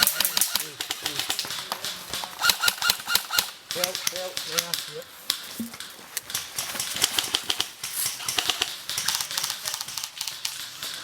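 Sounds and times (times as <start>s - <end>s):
airsoft rifles firing: 0.0s - 11.0s.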